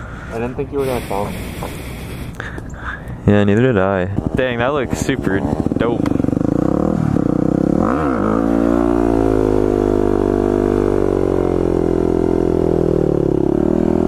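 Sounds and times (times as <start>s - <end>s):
motorcycle engine running: 0.0s - 2.6s, 3.2s - 14.0s.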